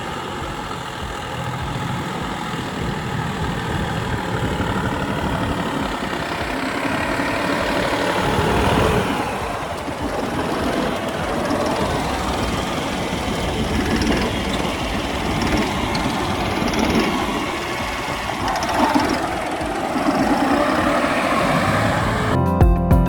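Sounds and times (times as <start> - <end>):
tractor diesel engine running: 0.0 - 22.5
music: 0.0 - 23.0.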